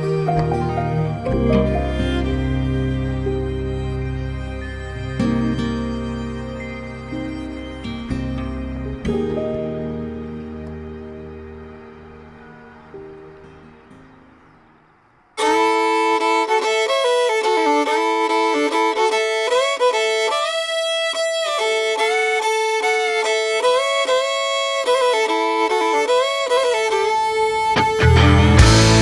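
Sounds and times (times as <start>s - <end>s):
solo fiddle playing: 0.0s - 13.6s, 15.4s - 29.0s.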